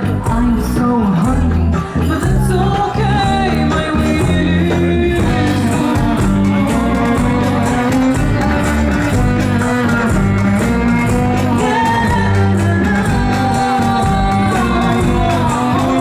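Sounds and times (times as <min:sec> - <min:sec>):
live band with singer: 0:00.0 - 0:16.0.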